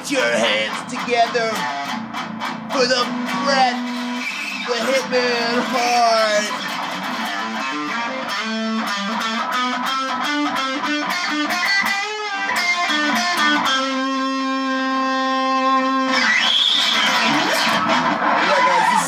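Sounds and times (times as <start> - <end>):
electric guitar: 0.0 - 19.0.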